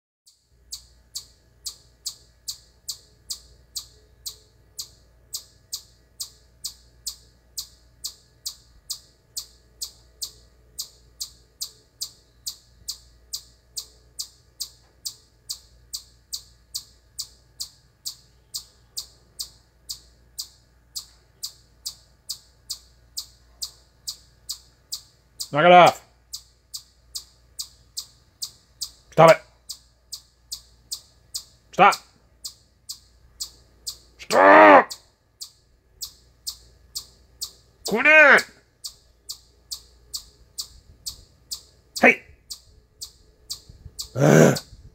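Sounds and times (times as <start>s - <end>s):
chipmunk chirping: 0.3s - 44.2s.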